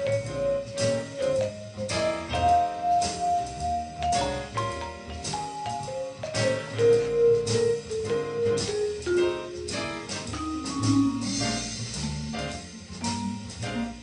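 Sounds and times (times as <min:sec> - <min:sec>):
vibraphone melody: 0:00.0 - 0:14.0.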